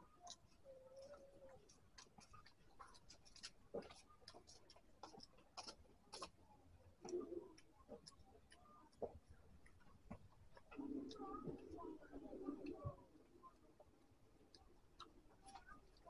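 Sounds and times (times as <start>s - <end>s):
mouth sounds while chewing: 0.0s - 16.0s.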